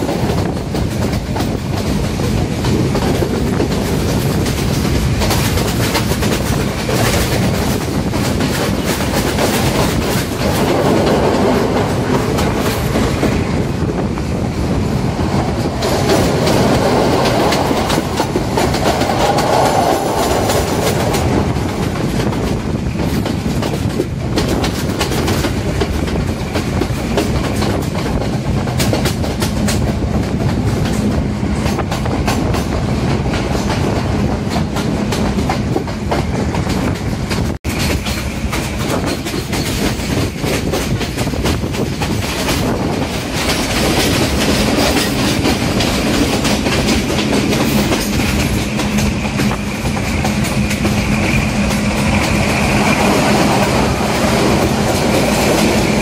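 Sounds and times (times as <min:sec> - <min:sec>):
train rumbling: 0:00.0 - 0:56.0
wheels clacking over rails: 0:00.0 - 0:56.0.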